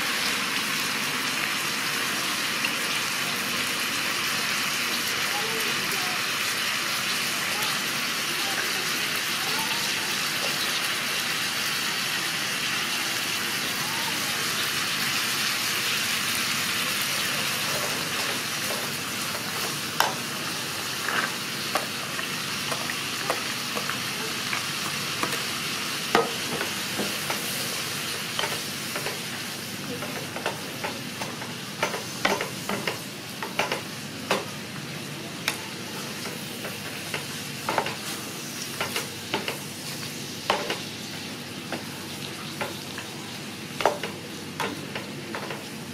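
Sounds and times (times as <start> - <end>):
food sizzling in a frying pan: 0.0 - 45.9.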